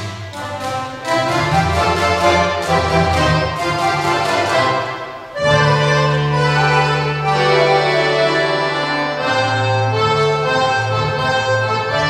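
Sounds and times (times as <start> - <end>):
accordion ensemble: 0.0 - 12.0.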